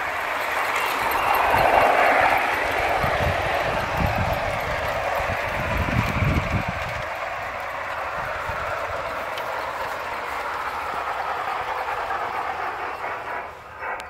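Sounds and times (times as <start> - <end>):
model train wheels rolling on track: 0.0 - 14.0.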